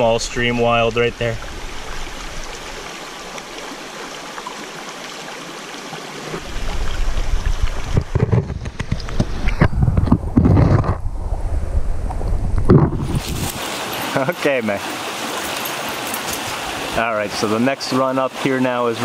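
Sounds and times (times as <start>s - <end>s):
stream running over rocks: 0.0s - 11.0s, 12.7s - 19.0s
water sloshing and gurgling: 0.0s - 19.0s.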